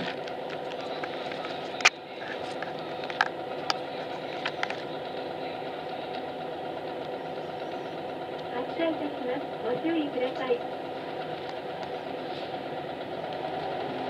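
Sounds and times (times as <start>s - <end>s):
bus engine idling hum: 0.0s - 14.0s.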